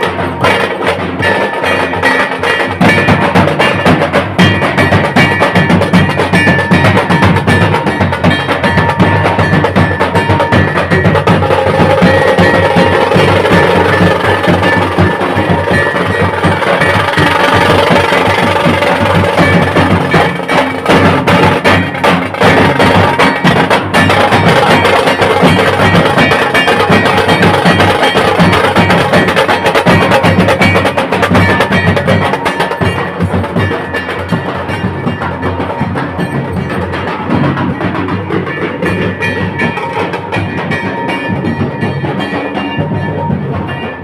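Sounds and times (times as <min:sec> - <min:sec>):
drums beating: 0:00.0 - 0:44.0.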